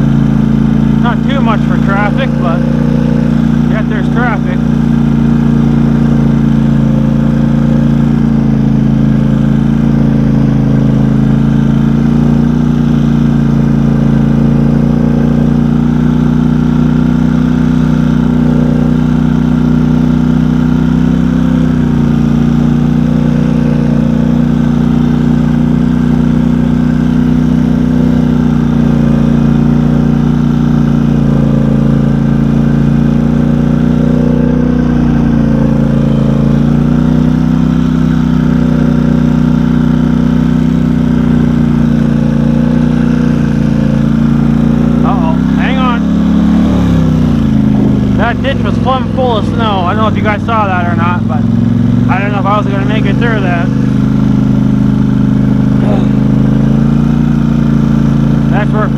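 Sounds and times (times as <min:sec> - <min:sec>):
off-road vehicle engine running: 0:00.0 - 0:58.9.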